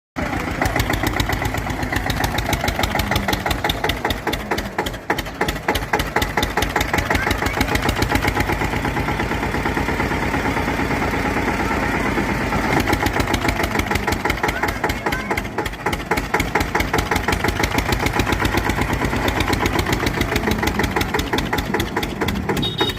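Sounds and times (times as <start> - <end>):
tractor diesel engine thudding: 0.2 - 22.9.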